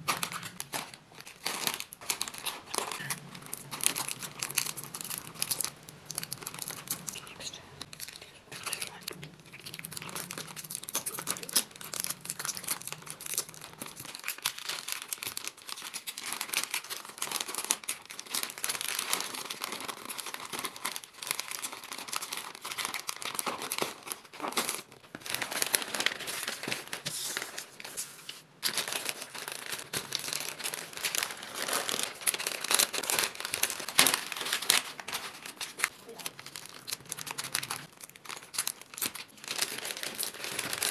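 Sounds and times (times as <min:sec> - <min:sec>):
plastic snack packets crackling: 0:00.0 - 0:40.9
wrapping paper crinkling: 0:00.0 - 0:40.9.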